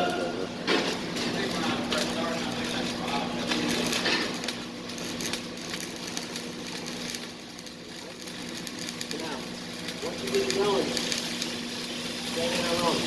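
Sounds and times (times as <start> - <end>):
low electrical hum: 0.0 - 13.0
welding arc crackling: 0.0 - 13.0.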